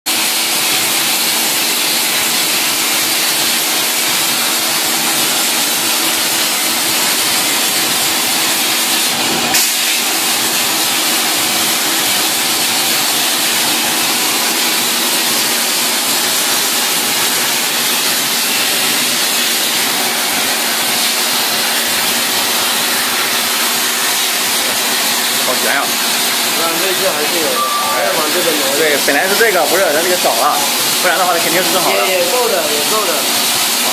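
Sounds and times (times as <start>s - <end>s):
plasma cutter arc hissing: 0.1s - 33.9s.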